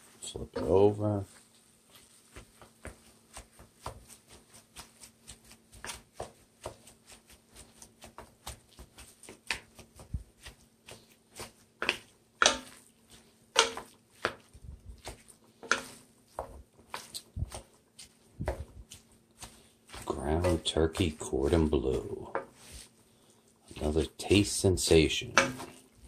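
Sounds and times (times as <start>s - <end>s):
spatula chopping and scraping in pan: 1.9s - 26.0s.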